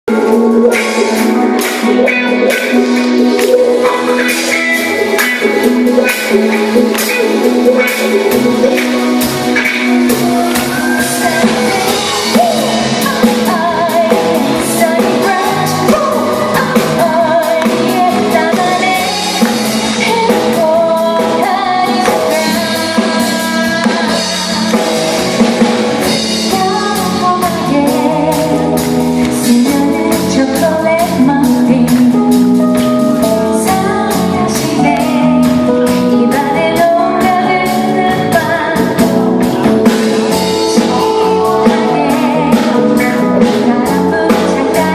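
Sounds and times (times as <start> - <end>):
live band playing: 0.0 - 44.9
drum kit steady beat: 0.1 - 44.9
person singing: 0.1 - 44.9.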